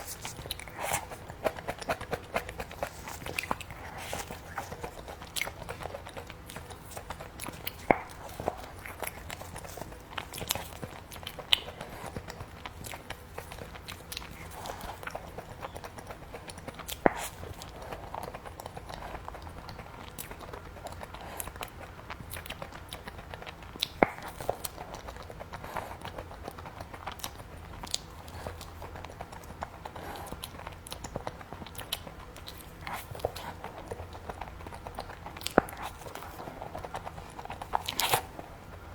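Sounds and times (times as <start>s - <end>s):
sharp food crunches: 0.0s - 38.8s
person chewing and biting: 0.0s - 38.9s.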